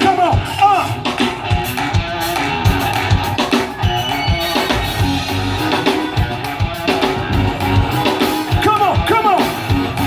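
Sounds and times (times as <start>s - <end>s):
bass guitar: 0.0s - 10.0s
drum kit beat: 0.0s - 10.0s
electric guitar: 0.0s - 10.0s.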